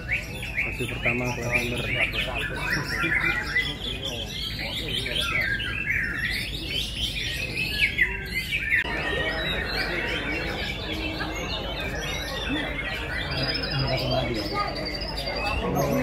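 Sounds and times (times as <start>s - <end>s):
birds singing whistles and chirps: 0.0s - 16.0s
crowd murmur: 0.0s - 16.0s.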